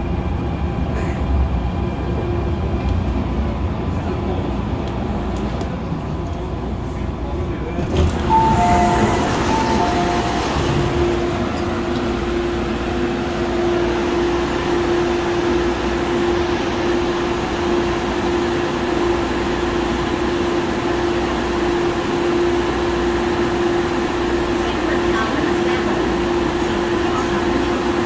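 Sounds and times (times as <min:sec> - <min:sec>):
train hum: 0:00.0 - 0:28.0
train rolling noise: 0:00.0 - 0:28.0.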